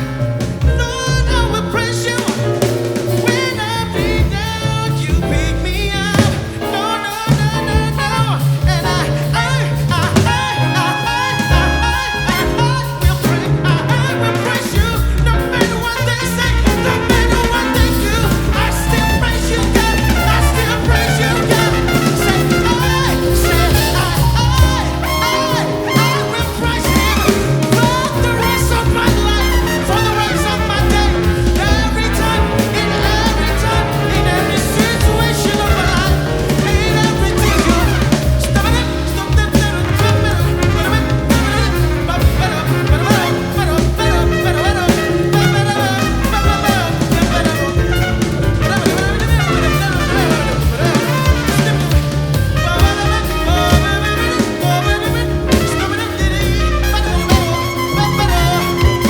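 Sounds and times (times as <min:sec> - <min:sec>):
brass horns: 0:00.0 - 0:59.0
drum kit: 0:00.0 - 0:59.0
piano: 0:00.0 - 0:59.0
walking double bass: 0:00.0 - 0:59.0.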